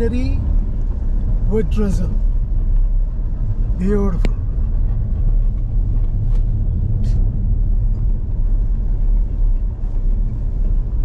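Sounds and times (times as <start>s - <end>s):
car driving low rumble: 0.0s - 11.0s.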